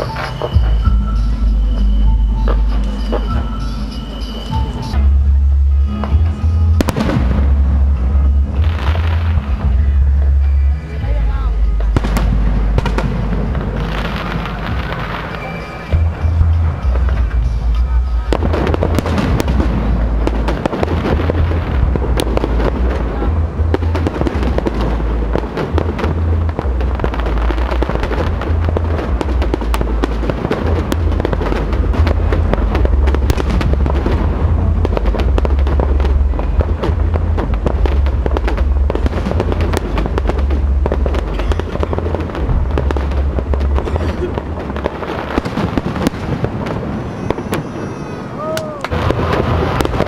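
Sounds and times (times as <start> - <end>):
low rumble: 0.0 - 47.4, 48.2 - 50.0
fireworks bursting: 0.0 - 50.0
fireworks crackling: 0.0 - 50.0.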